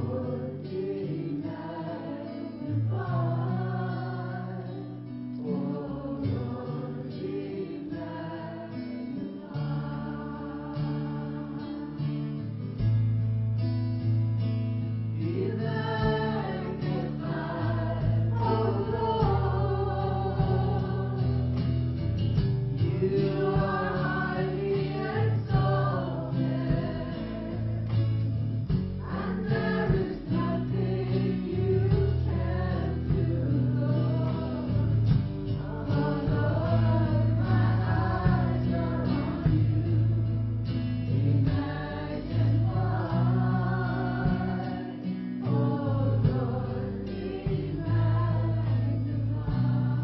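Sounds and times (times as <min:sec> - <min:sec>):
choir singing worship song: 0:00.0 - 0:13.0, 0:15.1 - 0:50.0
sustained bass notes: 0:02.6 - 0:50.0.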